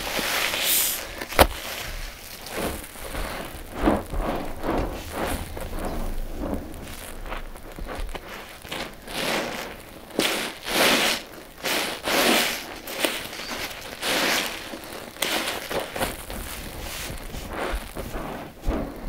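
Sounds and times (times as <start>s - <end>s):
wet sponges squeezed crackling: 0.0s - 19.0s.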